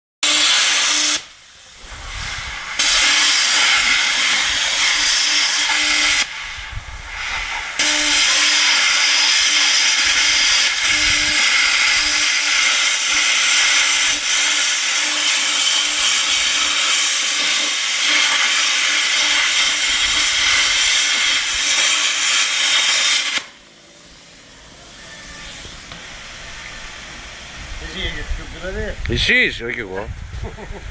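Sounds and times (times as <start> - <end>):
plasma cutter hissing: 0.2 - 29.4.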